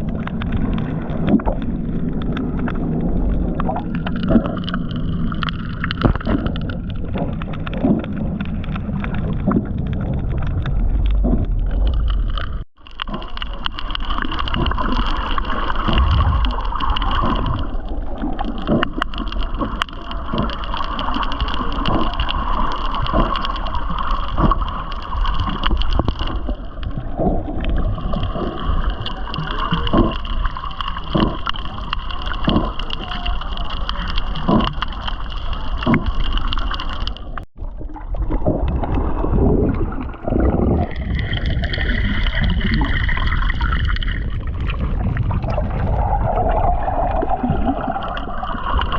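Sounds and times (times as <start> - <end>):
water sloshing and gurgling: 0.0 - 48.9
water splashes: 0.0 - 48.9.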